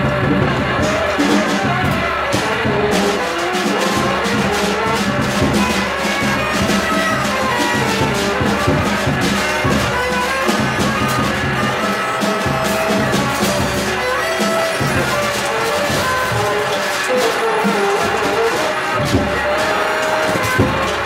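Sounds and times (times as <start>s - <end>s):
drums struck with sticks: 0.0s - 21.0s
saxophone long held notes: 0.0s - 21.0s.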